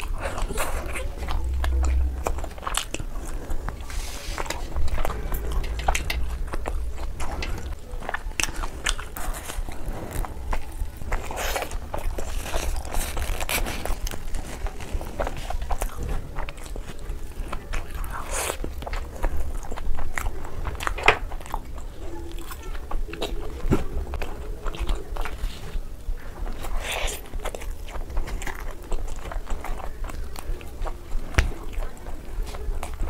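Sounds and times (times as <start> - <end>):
person biting and chewing food: 0.0 - 33.0.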